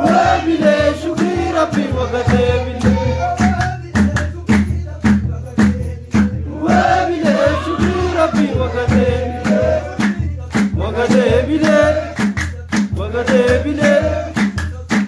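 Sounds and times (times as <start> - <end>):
hand-clapping: 0.0 - 15.0
men chanting: 0.0 - 15.0.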